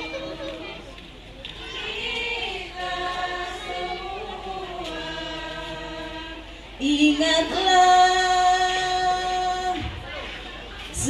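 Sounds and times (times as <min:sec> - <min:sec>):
voices singing religious song: 0:00.0 - 0:11.0.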